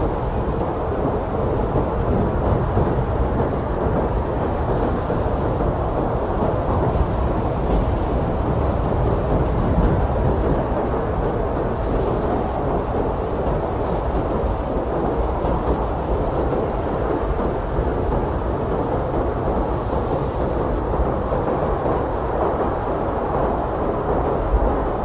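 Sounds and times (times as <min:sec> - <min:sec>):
strong blizzard wind: 0:00.0 - 0:25.0.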